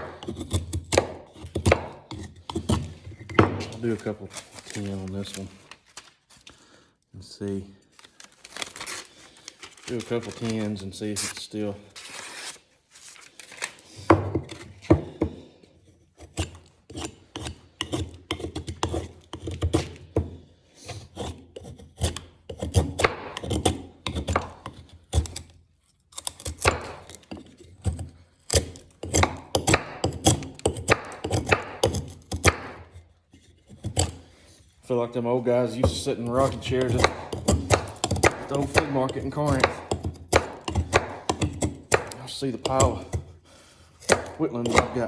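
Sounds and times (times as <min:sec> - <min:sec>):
knife shaving wood: 0:00.0 - 0:06.8, 0:08.0 - 0:45.0.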